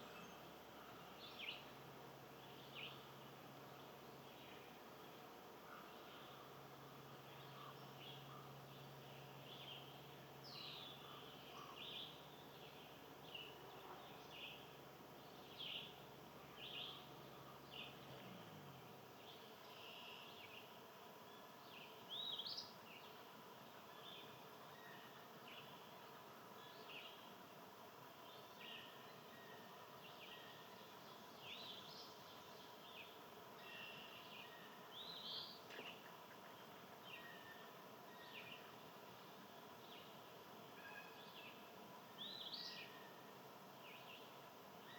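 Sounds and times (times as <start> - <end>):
low steady hum: 0.0 - 44.9
songbirds chirping: 0.0 - 44.9.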